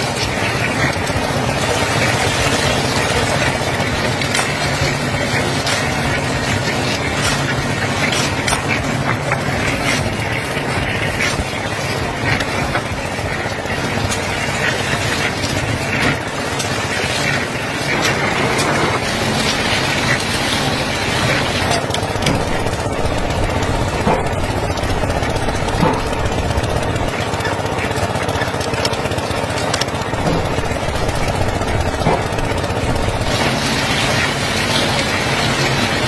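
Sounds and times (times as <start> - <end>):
machine running steadily: 0.0 - 36.0.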